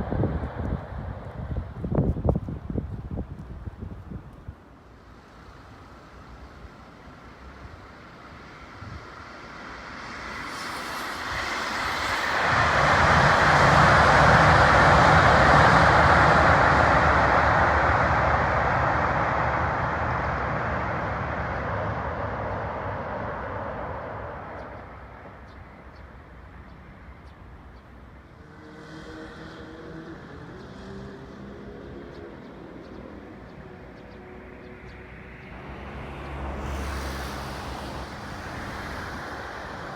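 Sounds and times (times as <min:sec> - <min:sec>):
train crossing steel bridge: 0:00.0 - 0:39.9.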